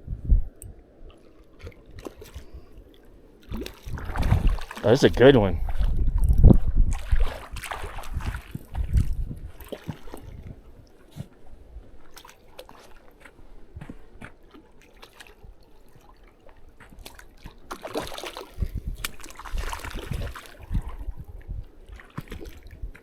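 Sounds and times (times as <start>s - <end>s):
water lapping and trickling: 0.2s - 23.0s.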